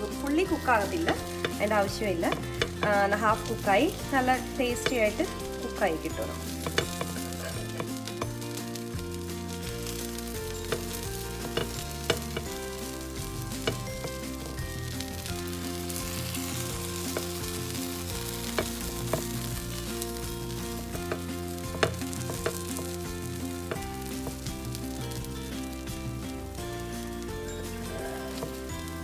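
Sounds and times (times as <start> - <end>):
sharp crackles: 0.0 - 27.3
background music with held notes: 0.0 - 29.0
food sizzling in a pan: 0.0 - 29.0.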